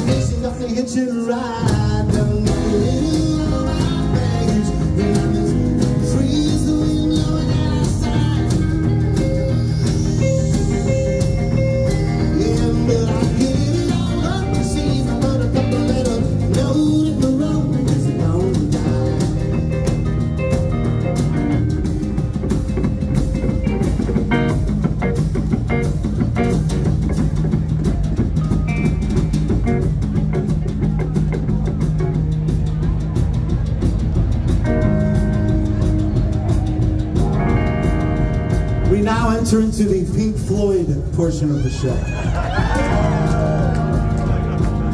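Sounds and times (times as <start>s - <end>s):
drum kit beat: 0.0s - 44.9s
electric guitars: 0.0s - 44.9s.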